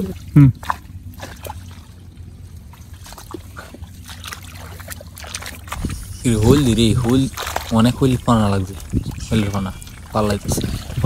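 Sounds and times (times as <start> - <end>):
low steady rumble: 0.0 - 11.0
water trickling and splashing: 0.0 - 11.0.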